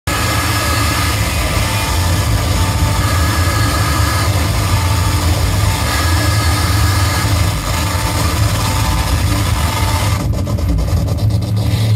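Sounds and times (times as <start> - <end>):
harsh electronic noise music: 0.1 - 11.9.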